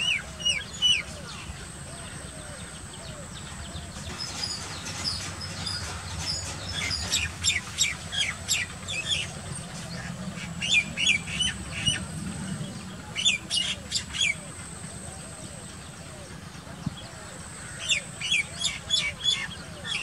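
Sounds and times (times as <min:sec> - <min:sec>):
high chirping bird calls: 0:00.0 - 0:20.0
steady low hum: 0:00.0 - 0:20.0.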